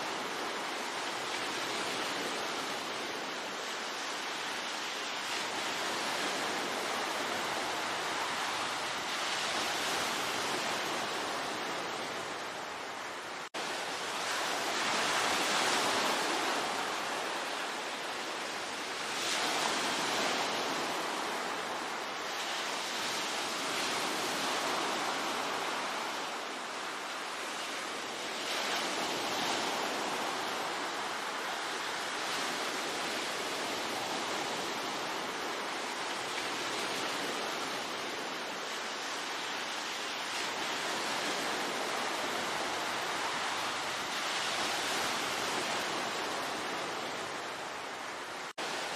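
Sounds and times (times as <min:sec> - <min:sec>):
ocean waves washing in: 0:00.0 - 0:48.9.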